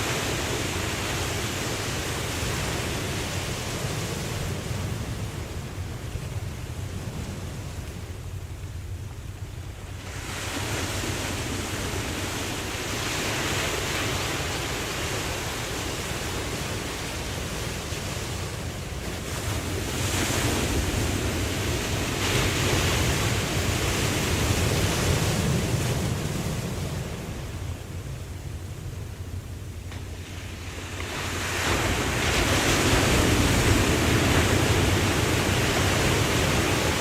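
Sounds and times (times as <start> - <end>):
ocean waves washing in: 0.0 - 37.0.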